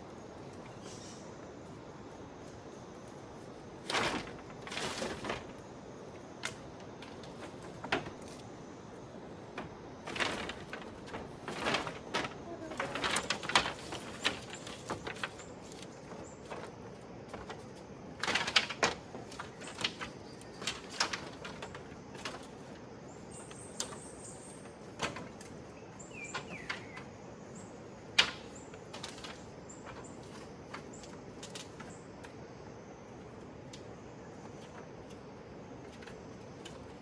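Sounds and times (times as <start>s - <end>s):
steady outdoor hiss: 0.0s - 37.0s.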